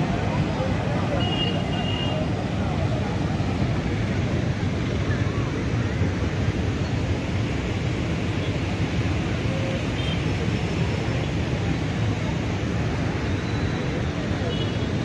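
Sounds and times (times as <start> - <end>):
water rushing over spillway: 0.0 - 15.0.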